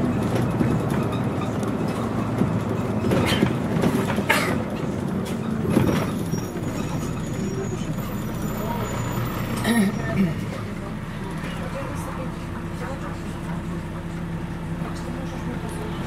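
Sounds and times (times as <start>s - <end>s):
bus body clattering and knocking: 0.0s - 15.9s
bus diesel engine rumble: 0.0s - 16.0s.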